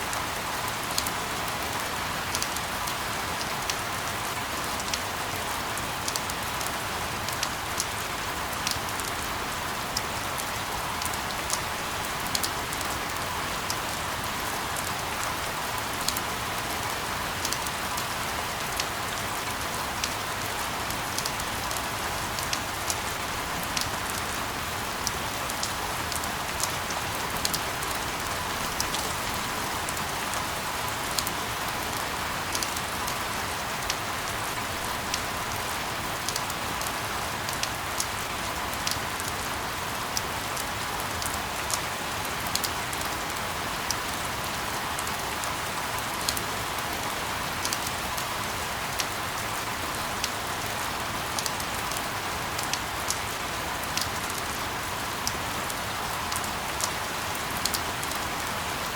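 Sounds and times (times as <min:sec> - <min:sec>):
rain drops ticking: 0:00.0 - 0:58.9
steady rain hiss: 0:00.0 - 0:58.9.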